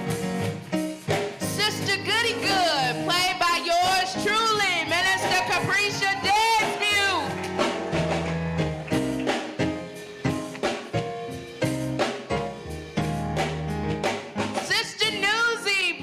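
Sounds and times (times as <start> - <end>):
drum kit beat: 0.0 - 15.6
band music: 0.0 - 16.0.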